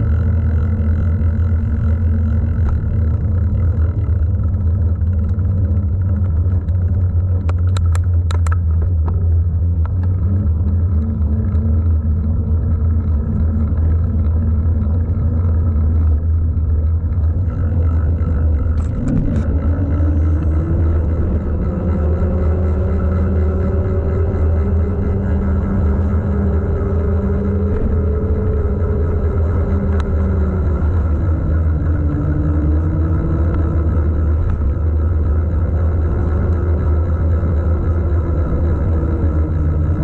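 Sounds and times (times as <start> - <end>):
bike tyre noise: 0.0 - 40.0.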